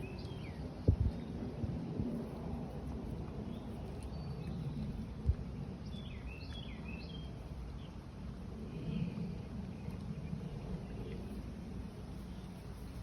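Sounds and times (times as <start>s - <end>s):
steady low rush: 0.0s - 13.0s.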